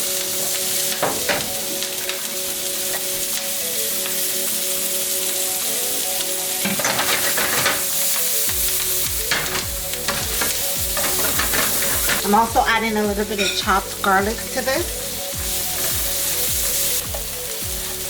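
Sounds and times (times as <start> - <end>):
vegetables sizzling in butter: 0.0 - 18.0.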